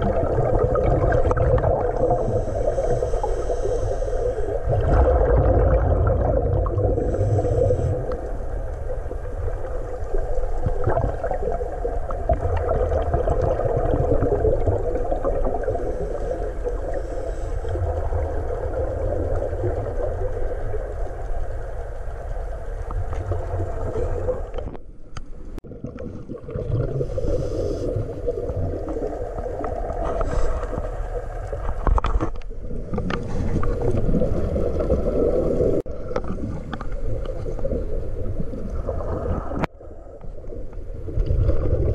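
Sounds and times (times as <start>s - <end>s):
muffled underwater rumble: 0.0s - 41.9s.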